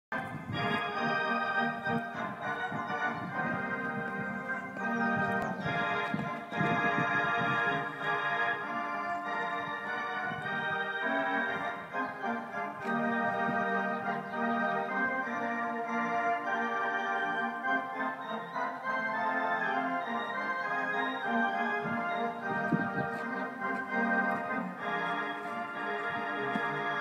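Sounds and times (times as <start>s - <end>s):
music with long held chords: 0.2s - 27.0s.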